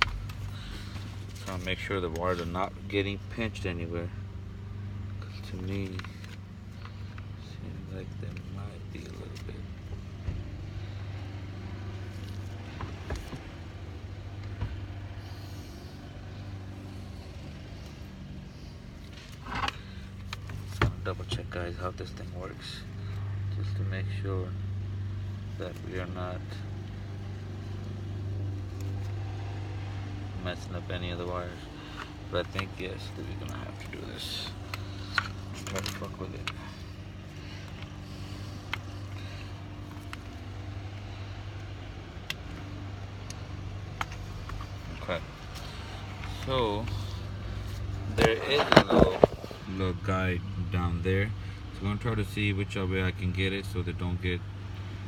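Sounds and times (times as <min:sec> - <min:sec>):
engine idling hum: 0:00.0 - 0:55.0.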